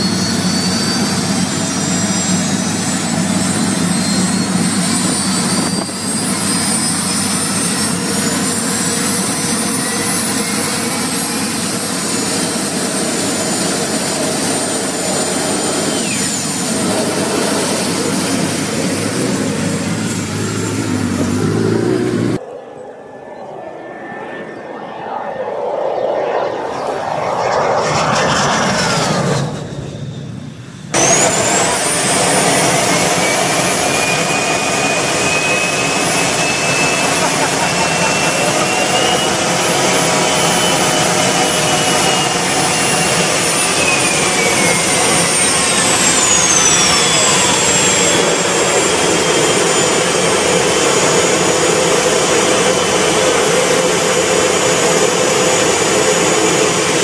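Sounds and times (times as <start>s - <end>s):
high turbine whine: 0.0s - 57.0s
jet engine roaring: 0.0s - 57.0s.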